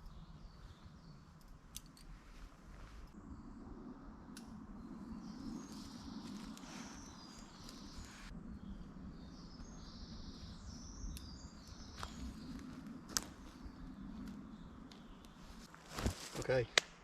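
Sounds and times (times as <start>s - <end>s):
birds singing: 0.0s - 2.0s, 4.7s - 16.6s.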